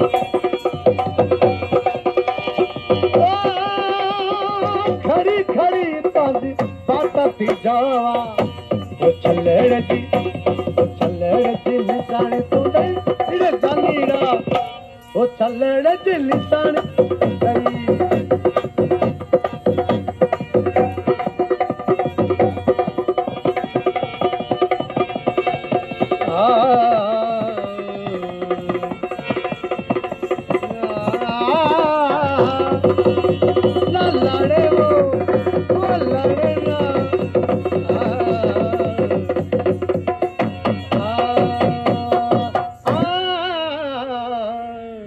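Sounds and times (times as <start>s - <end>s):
barrel drum fast beat: 0.0s - 14.8s, 15.9s - 43.4s
harmonium drone: 0.0s - 45.0s
person singing: 1.2s - 19.9s, 20.5s - 39.6s, 40.2s - 45.0s.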